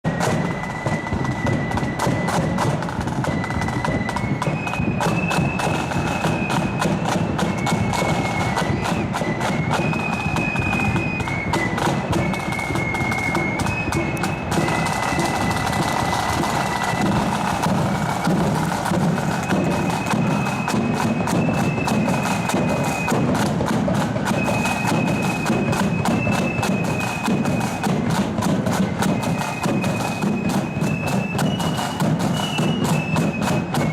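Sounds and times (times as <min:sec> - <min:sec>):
flutes playing melody: 0:00.0 - 0:33.9
rapid snare drumming: 0:00.0 - 0:33.9.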